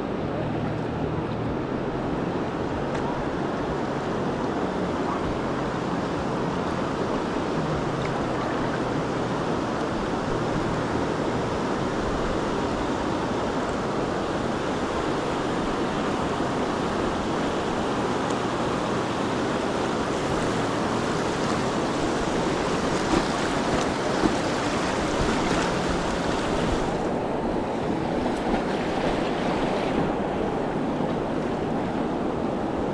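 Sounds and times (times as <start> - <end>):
river water rushing over rapids: 0.0 - 32.9.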